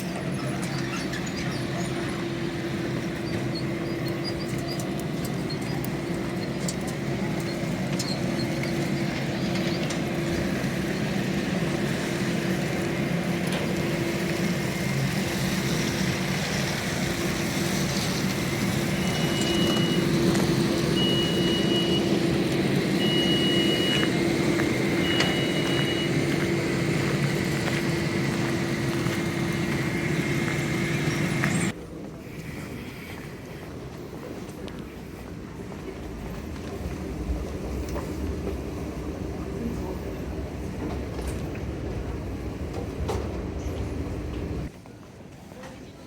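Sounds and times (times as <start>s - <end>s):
aircraft systems hum: 0.0s - 44.7s.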